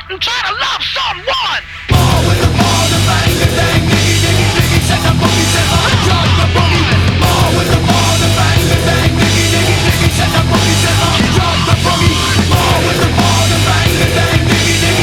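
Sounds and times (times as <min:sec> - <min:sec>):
hard rock music: 0:01.6 - 0:15.0.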